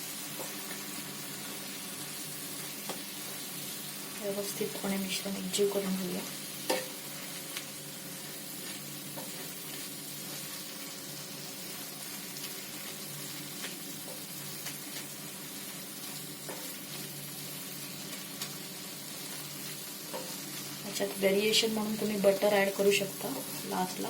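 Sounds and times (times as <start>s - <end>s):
food sizzling on a hot pan: 0.0s - 24.0s.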